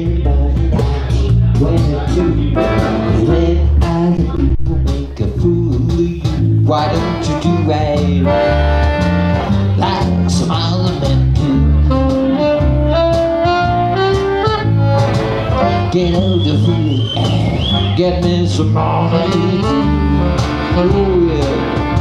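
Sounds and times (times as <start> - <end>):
bass: 0.0 - 22.0
steady beat: 0.1 - 22.0
accordion: 0.7 - 5.1, 6.7 - 22.0
saxophone: 1.8 - 4.9, 6.7 - 22.0.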